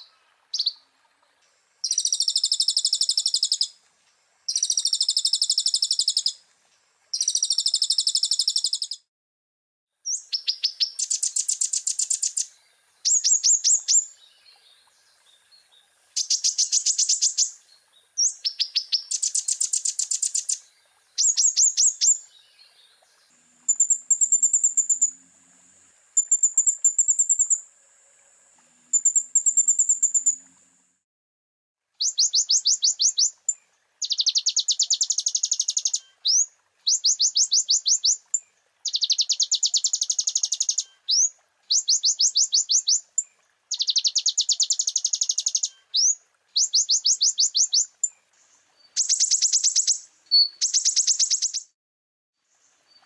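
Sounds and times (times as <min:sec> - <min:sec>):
bird singing trilled song: 0:00.0 - 0:00.8, 0:01.8 - 0:03.8, 0:04.5 - 0:06.4, 0:07.2 - 0:09.1, 0:10.0 - 0:25.2, 0:26.2 - 0:27.6, 0:28.9 - 0:30.6, 0:32.0 - 0:51.8.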